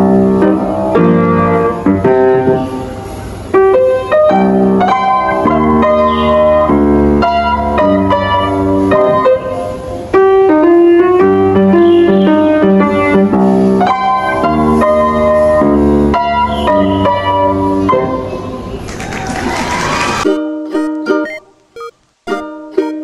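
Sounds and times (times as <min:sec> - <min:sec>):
upright piano playing: 0:00.0 - 0:18.8, 0:20.2 - 0:23.0.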